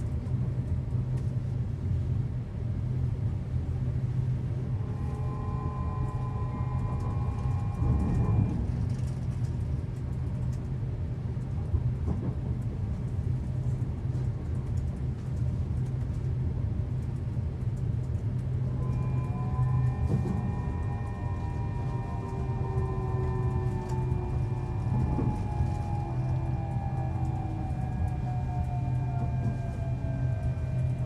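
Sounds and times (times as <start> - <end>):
train low rumble: 0.0 - 31.0
train whine of steady tones: 0.0 - 31.0.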